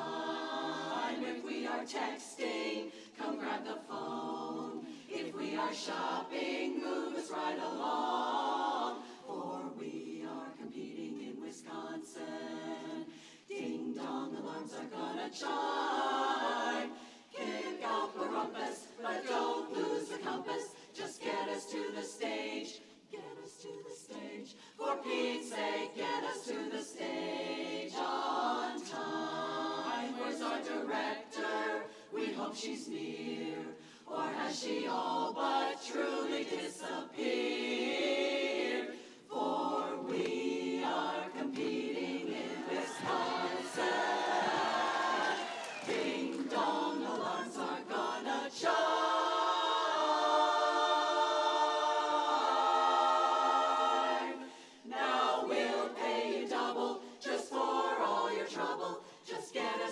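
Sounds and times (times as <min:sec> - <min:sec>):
women's chorus singing a cappella: 0:00.0 - 0:59.9.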